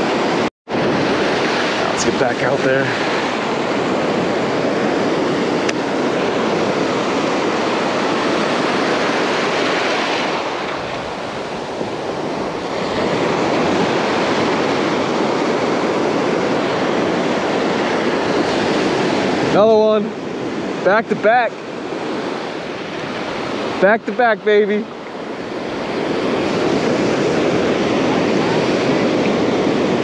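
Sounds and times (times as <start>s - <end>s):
wind noise on microphone: 0.0s - 23.8s, 25.2s - 30.0s
ocean surf breaking: 0.0s - 30.0s.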